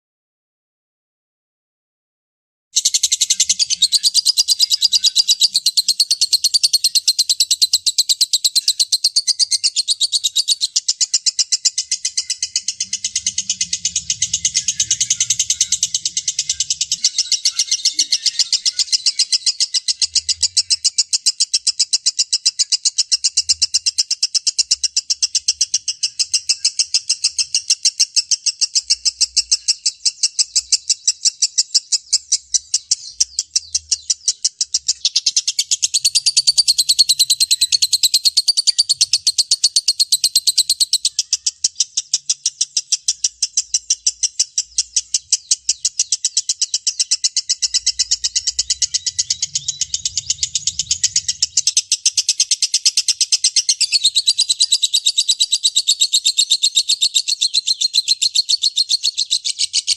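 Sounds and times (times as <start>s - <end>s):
bird chattering: 2.8s - 59.9s.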